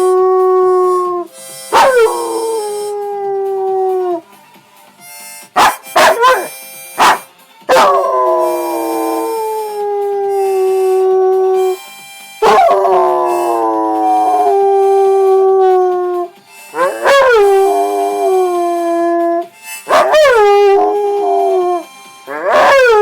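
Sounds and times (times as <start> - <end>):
dog howling: 0.0 - 4.2, 5.6 - 11.8, 12.4 - 23.0.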